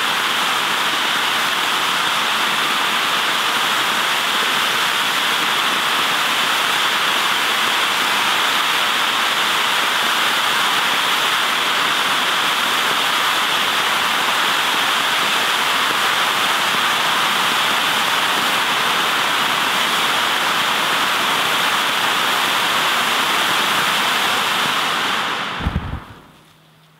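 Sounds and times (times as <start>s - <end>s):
fountain firework hissing: 0.0s - 26.4s.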